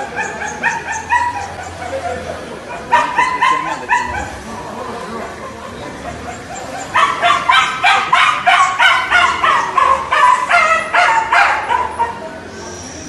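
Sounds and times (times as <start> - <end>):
dog barking: 0.0 - 4.4, 6.0 - 12.3.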